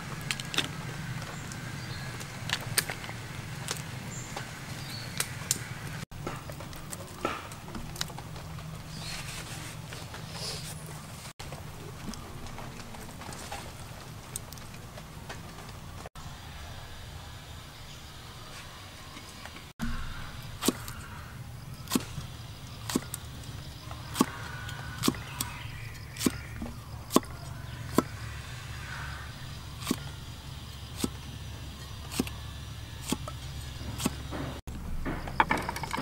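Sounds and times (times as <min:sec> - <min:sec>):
low hum: 0:00.0 - 0:35.4.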